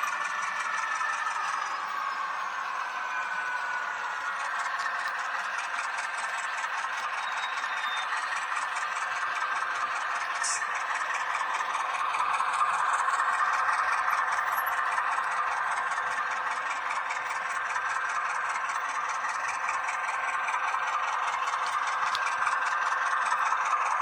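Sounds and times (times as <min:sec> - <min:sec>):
model locomotive whirring: 0:00.0 - 0:24.0.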